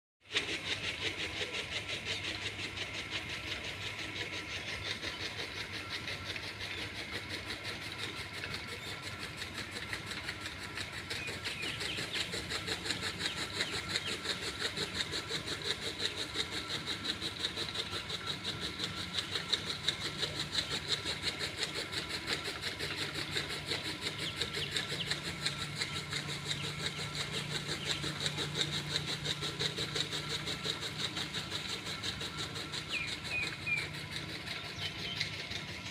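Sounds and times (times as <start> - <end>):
machine running with fast beat: 0.2 - 35.9.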